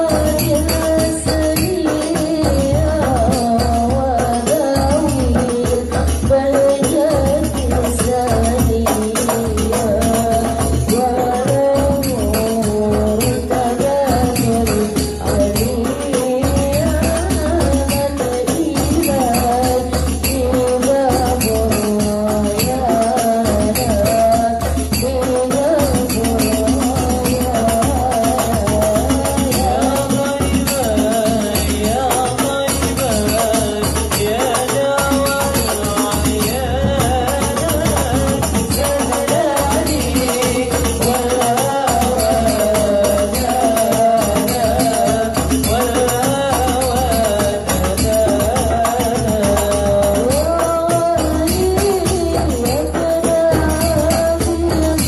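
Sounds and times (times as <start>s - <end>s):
frame drums rhythm: 0.0s - 55.0s
men singing into microphones: 0.0s - 55.0s.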